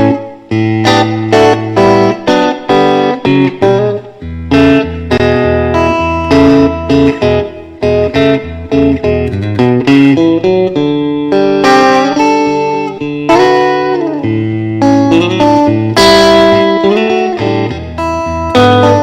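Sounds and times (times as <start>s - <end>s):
electric guitar blues: 0.0s - 19.0s.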